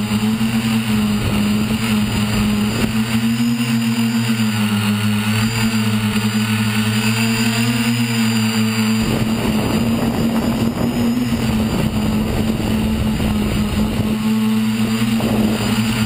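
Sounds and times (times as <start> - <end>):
drone motors humming: 0.0 - 16.0
rough rushing noise: 0.0 - 16.0.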